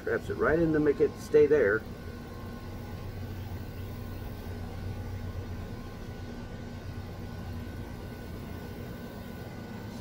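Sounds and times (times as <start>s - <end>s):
faint steady tones: 0.0s - 10.0s
low mechanical hum: 0.0s - 10.0s.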